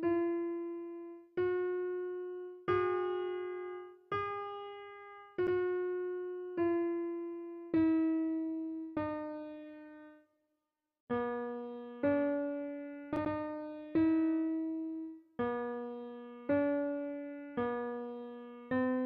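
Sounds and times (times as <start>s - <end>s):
slow piano-like melody: 0.0s - 10.4s, 11.1s - 19.0s.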